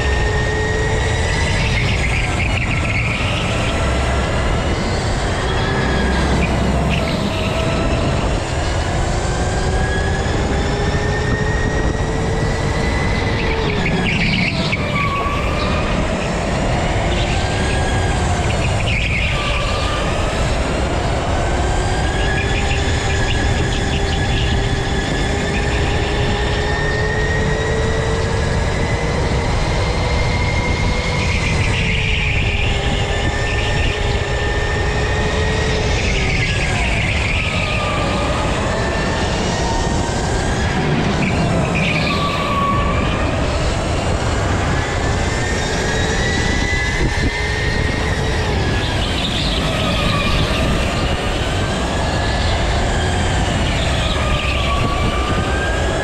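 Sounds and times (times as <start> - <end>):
go-kart motor whining: 0.0 - 56.0.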